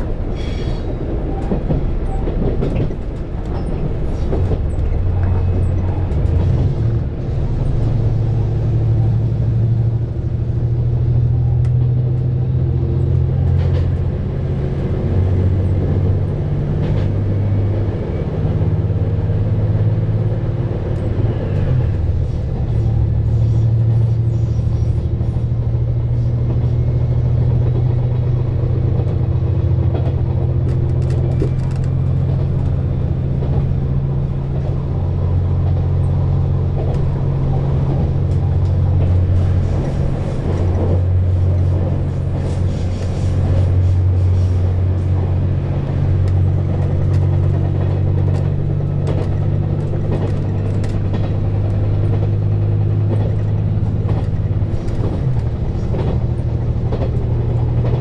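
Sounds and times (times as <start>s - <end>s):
diesel railcar engine drone: 0.0s - 58.0s.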